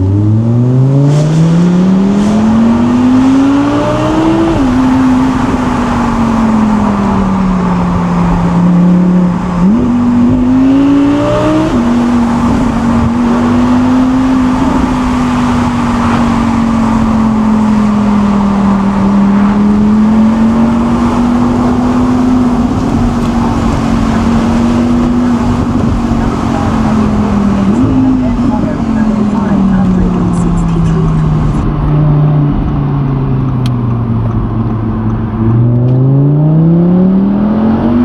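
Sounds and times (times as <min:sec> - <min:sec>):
sports car engine shifting up: 0:00.0 - 0:38.0
tyre and road noise: 0:00.0 - 0:38.0.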